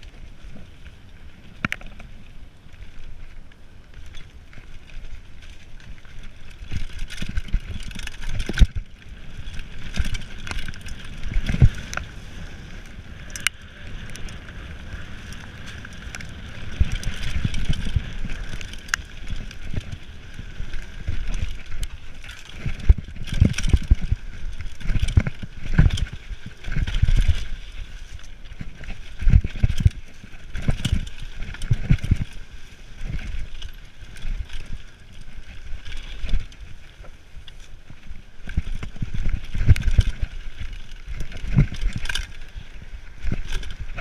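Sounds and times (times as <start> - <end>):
bike knocking and rattling: 0.0 - 44.0
bike tyres rumbling over dirt: 0.0 - 44.0.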